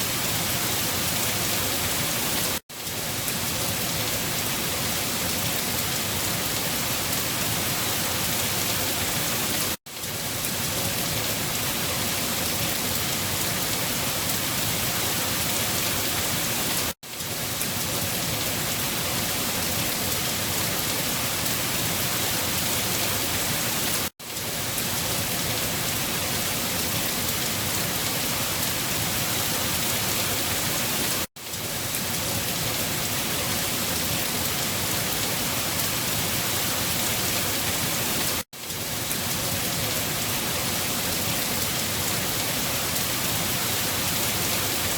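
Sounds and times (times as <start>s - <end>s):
dense rain hiss: 0.0s - 44.9s.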